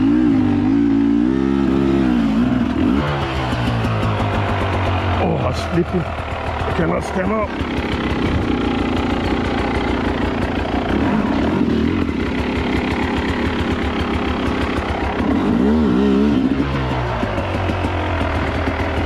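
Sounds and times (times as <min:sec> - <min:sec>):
two-stroke dirt bike engine: 0:00.0 - 0:19.0.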